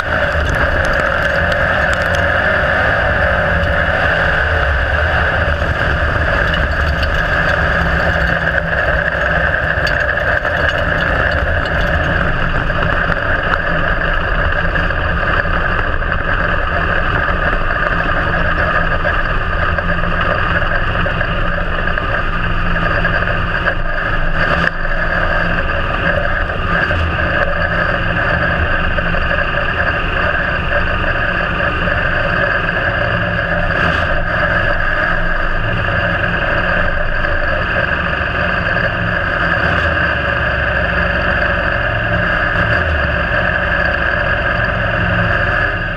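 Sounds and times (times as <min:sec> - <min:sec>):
race car engine running: 0:00.0 - 0:45.9.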